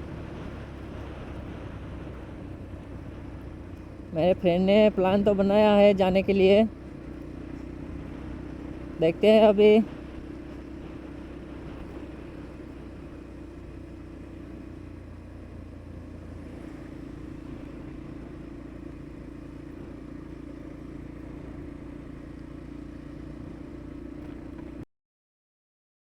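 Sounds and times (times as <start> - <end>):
motorcycle engine cruising: 0.0 - 24.8.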